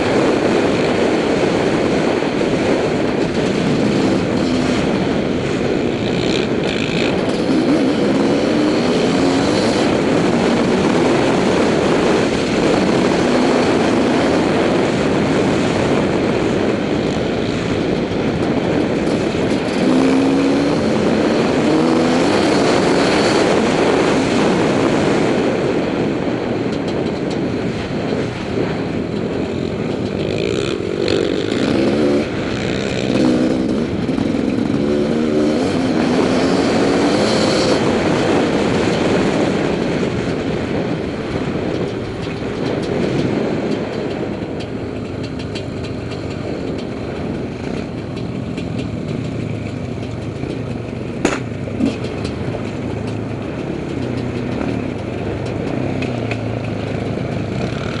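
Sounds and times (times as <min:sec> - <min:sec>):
motorcycle engine revving: 0:00.0 - 0:58.0
wind noise on microphone: 0:00.0 - 0:58.0.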